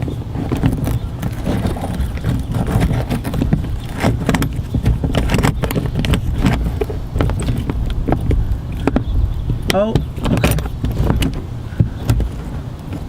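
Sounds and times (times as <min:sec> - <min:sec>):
plastic mudflap being worked loose: 0:00.0 - 0:13.0
steady low rumble: 0:00.0 - 0:13.0.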